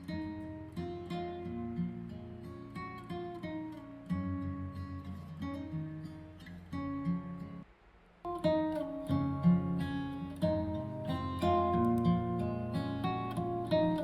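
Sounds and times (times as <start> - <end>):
strummed acoustic guitar music: 0.0 - 7.6, 8.3 - 14.0.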